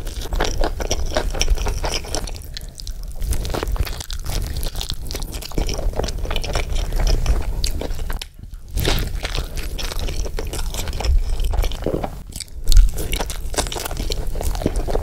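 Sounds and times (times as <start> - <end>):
person chewing and crunching food: 0.0 - 15.0.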